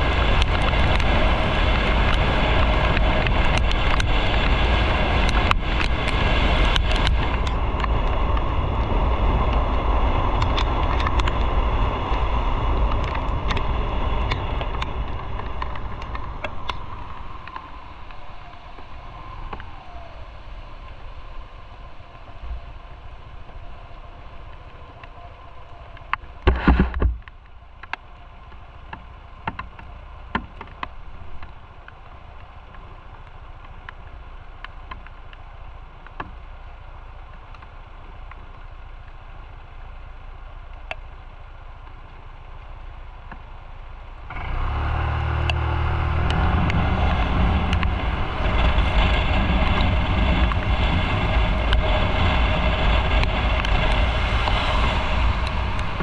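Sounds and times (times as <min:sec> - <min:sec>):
wind noise: 0:00.0 - 0:34.1, 0:44.2 - 0:56.0.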